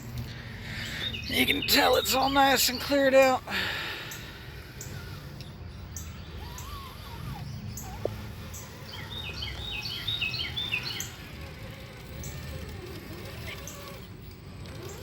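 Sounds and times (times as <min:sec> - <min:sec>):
wild birds chirping: 0:00.0 - 0:15.0.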